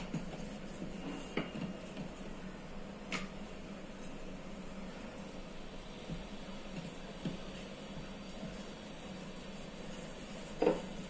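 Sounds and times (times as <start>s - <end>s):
room hum: 0.0s - 11.0s
soft dough handling sounds: 0.0s - 11.0s.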